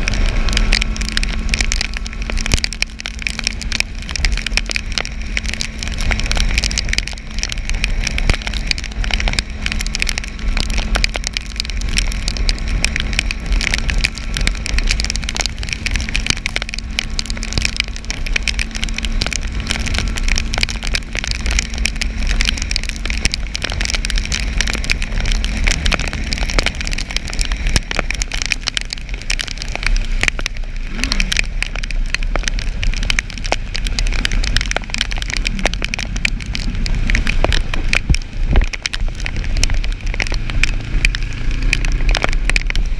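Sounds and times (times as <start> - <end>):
motorcycle engine hum: 0.0 - 42.9
rain and tyre spray hiss: 0.0 - 42.9
wind rumble on microphone: 0.0 - 42.9.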